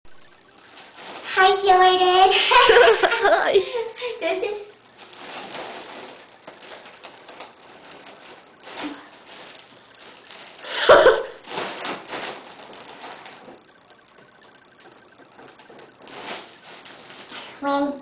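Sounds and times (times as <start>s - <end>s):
balloon rustling and hissing: 0.3s - 3.1s, 3.8s - 18.0s.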